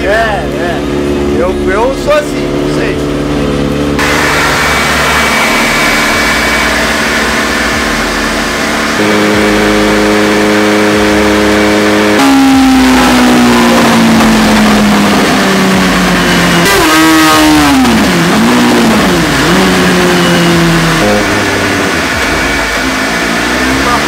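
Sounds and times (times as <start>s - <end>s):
motorcycle engine revving: 0.0s - 24.0s
rushing noise: 4.0s - 24.0s.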